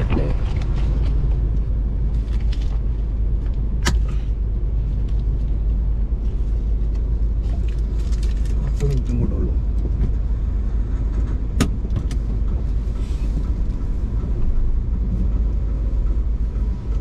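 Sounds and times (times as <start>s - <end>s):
vehicle rumble from on board: 0.0s - 17.0s.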